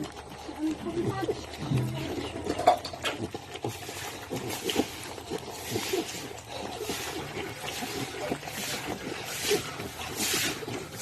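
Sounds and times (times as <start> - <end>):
pigs grunting: 0.0 - 11.0
water splashing: 0.0 - 11.0.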